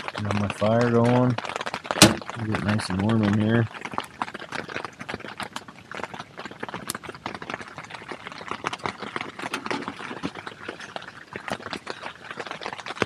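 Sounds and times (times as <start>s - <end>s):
rain pattering on tent canvas: 0.0s - 13.0s
wood stove fire crackling: 0.0s - 13.0s.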